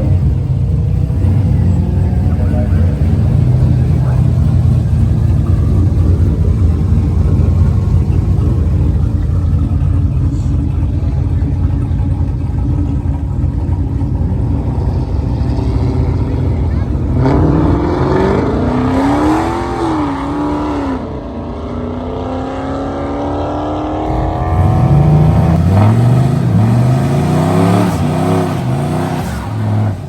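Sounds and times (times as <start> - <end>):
indistinct voices: 0.0 - 19.6, 24.0 - 30.0
low engine rumble: 0.0 - 19.7, 24.0 - 30.0.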